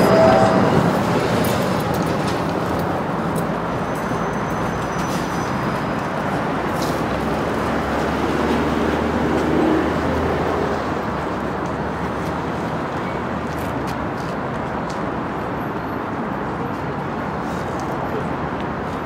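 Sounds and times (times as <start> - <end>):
city traffic: 0.0 - 19.0
tram running on tracks: 0.0 - 19.0.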